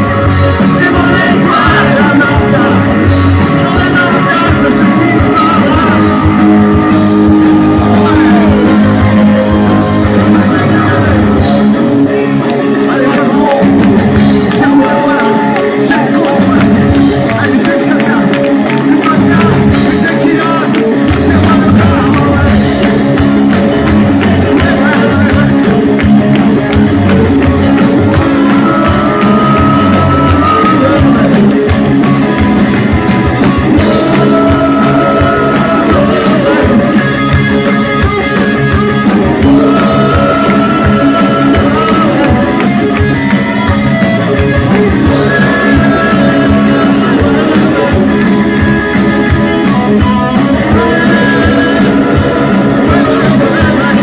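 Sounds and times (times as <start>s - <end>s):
lead guitar held notes: 0.0s - 54.0s
live rock band playing: 0.0s - 54.0s.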